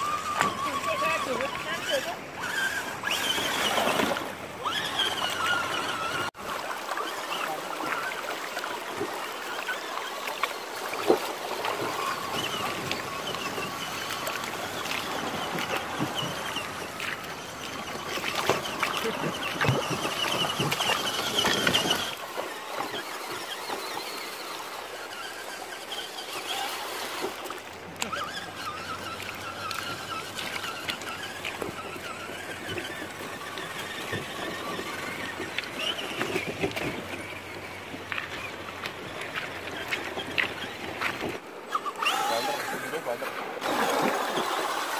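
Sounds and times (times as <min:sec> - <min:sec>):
truck crawling over loose stones: 0:00.0 - 0:27.4, 0:28.0 - 0:44.9
river water splashing: 0:00.0 - 0:44.9
toy truck electric motor whining: 0:00.0 - 0:44.9.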